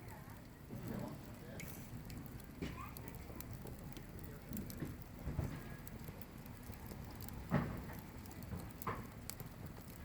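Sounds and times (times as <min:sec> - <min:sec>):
campfire crackling: 0:00.0 - 0:10.0
sharp fire pops: 0:00.0 - 0:10.0.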